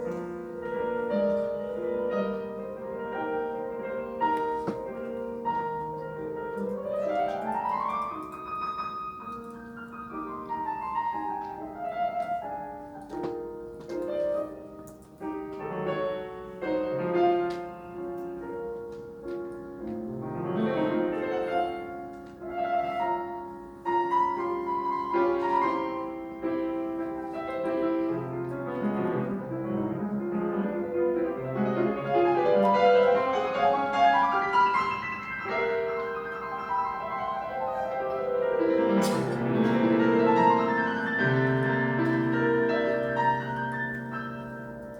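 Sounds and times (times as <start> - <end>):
classical piano: 0.0 - 44.9.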